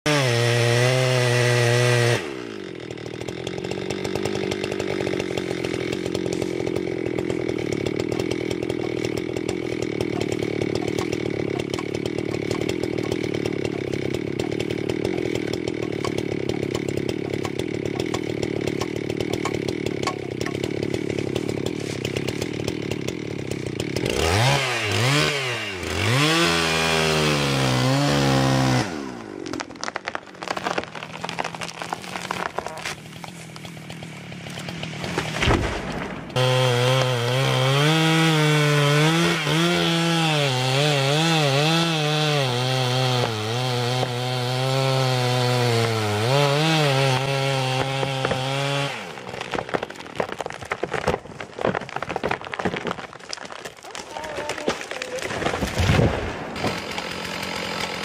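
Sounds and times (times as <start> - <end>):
chainsaw cutting tree: 0.0 - 58.0.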